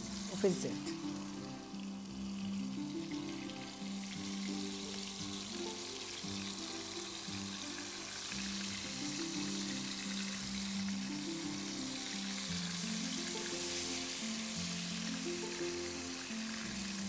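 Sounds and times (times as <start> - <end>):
background music with held notes: 0.0 - 17.0
fish sizzling in hot oil: 0.0 - 17.0.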